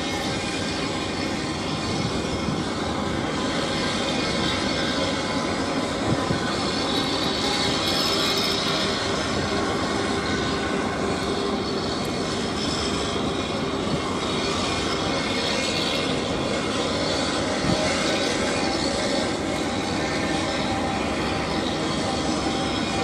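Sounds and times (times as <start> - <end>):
ship diesel engine drone: 0.0 - 23.0.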